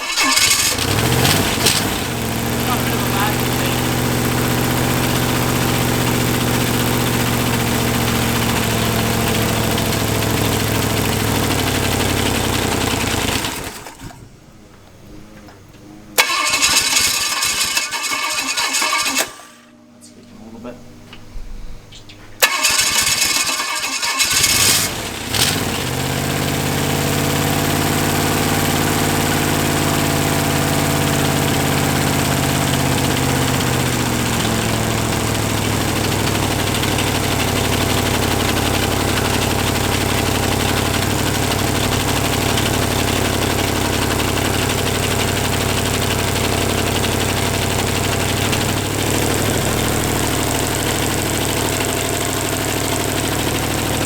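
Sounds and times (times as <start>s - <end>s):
engine cranking and sputtering: 0.0s - 14.3s, 16.2s - 19.7s, 22.4s - 54.0s
engine idling: 0.0s - 14.3s, 16.2s - 19.7s, 22.4s - 54.0s.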